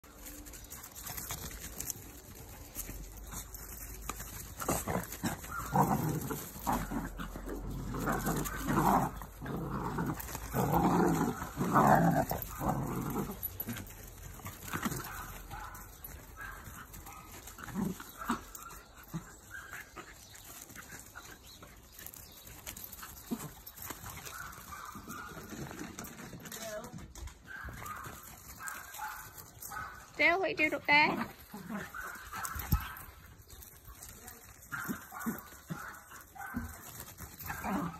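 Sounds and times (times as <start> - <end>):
dogs growling and barking: 0.5 - 26.4, 30.9 - 37.9.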